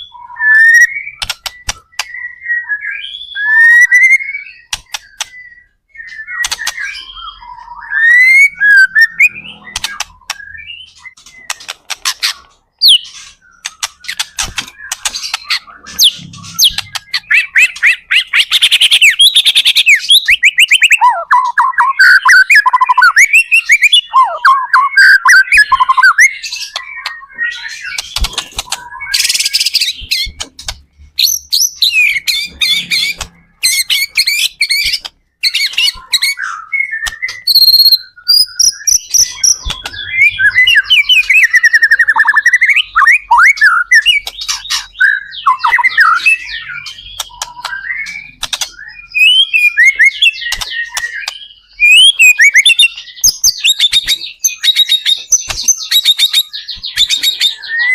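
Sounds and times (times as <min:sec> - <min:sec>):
songbird whistling and trilling: 0:00.0 - 0:57.9.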